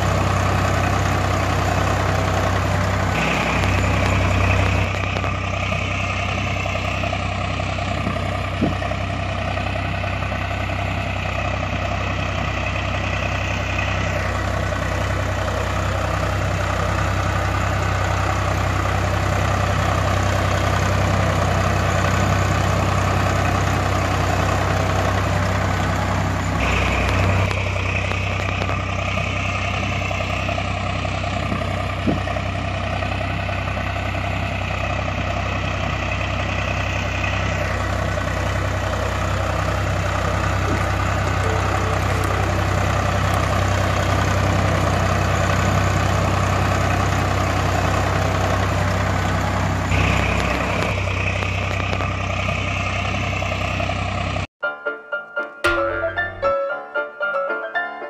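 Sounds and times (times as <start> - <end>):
tractor engine idling: 0.0 - 54.5.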